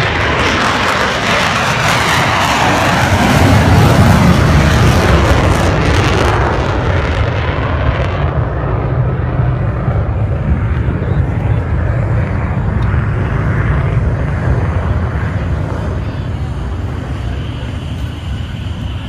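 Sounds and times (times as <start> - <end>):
aircraft engine rushing and rumbling: 0.0 - 19.0.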